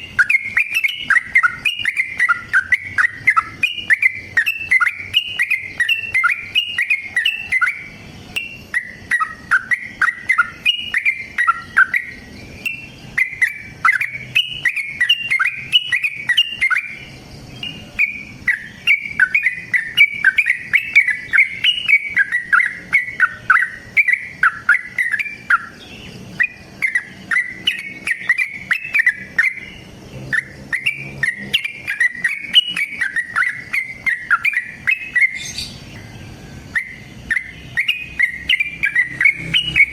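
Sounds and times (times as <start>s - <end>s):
bird singing bubbling chattering notes: 0.0s - 36.1s, 36.7s - 39.9s.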